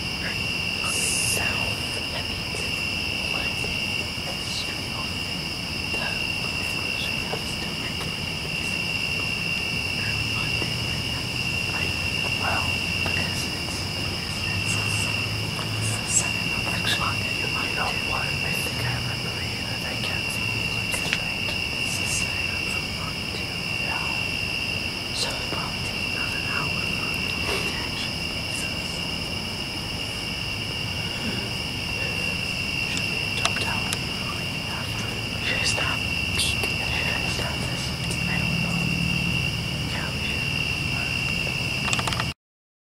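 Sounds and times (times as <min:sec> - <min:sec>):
crickets trilling: 0:00.0 - 0:42.4
faint low hum: 0:00.0 - 0:42.4.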